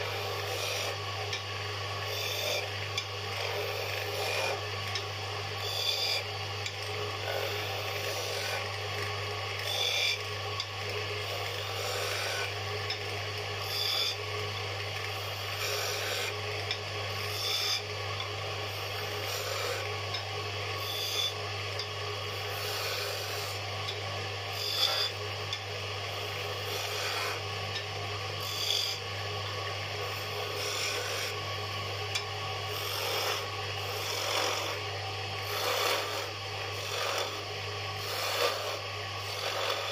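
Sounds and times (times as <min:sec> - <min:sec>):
chisel scraping spinning wood: 0:00.0 - 0:39.9
lathe motor humming: 0:00.0 - 0:39.9.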